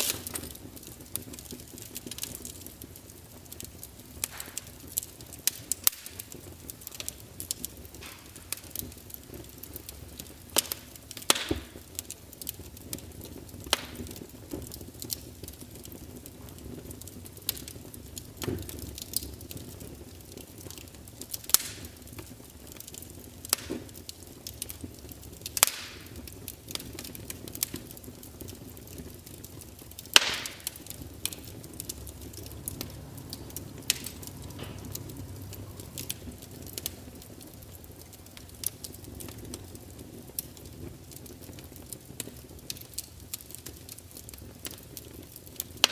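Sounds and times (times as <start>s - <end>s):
low steady hiss: 0.0s - 45.9s
wood fire crackling: 0.0s - 45.9s.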